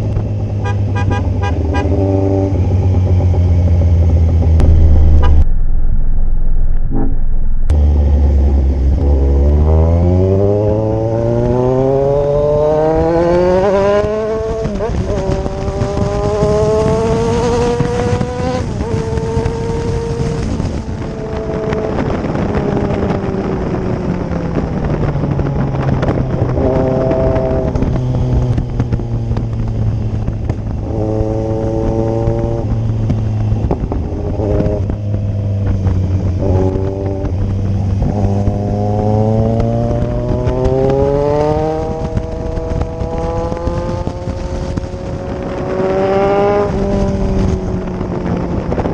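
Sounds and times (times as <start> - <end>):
motorcycle engine revving through gears: 0.0 - 5.5, 6.8 - 48.9
wind noise: 0.0 - 48.9.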